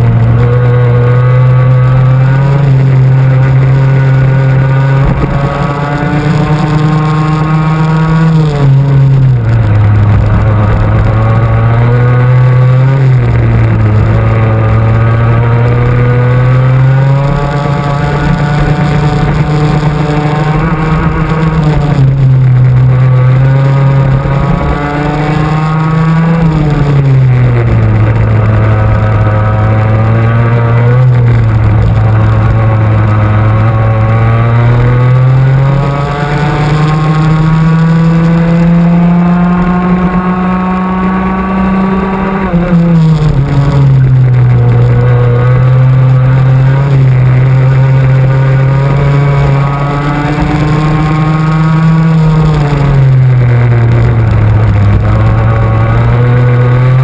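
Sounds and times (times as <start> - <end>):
racing kart engine at high revs: 0.0 - 57.0.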